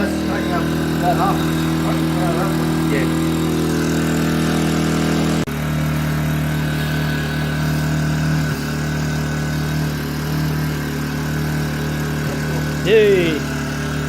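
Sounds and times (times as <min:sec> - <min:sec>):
generator engine running: 0:00.0 - 0:14.0.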